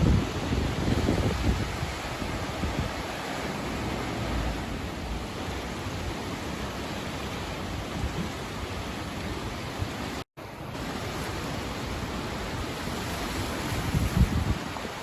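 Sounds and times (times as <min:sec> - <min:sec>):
floodwater rushing: 0:00.0 - 0:15.0
low water rumbles: 0:00.0 - 0:15.0.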